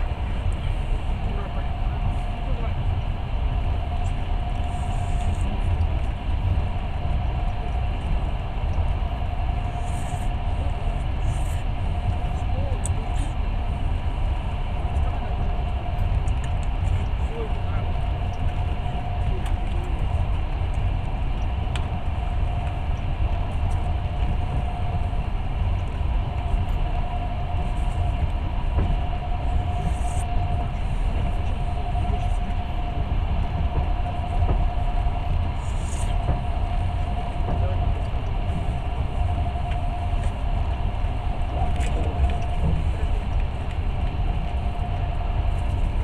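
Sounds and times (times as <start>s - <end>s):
steady train whine: 0.0s - 46.0s
train rumbling on rails: 0.0s - 46.0s.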